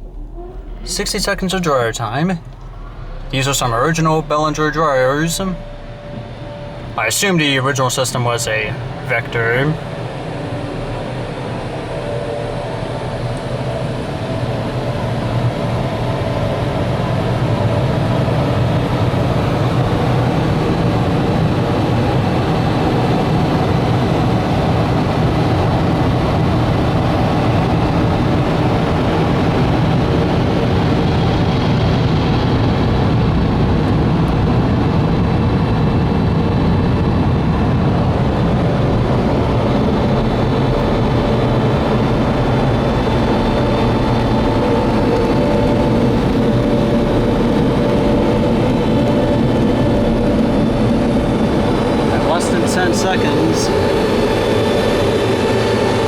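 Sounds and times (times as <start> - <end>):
car wash dryer blowers: 0.0 - 56.0.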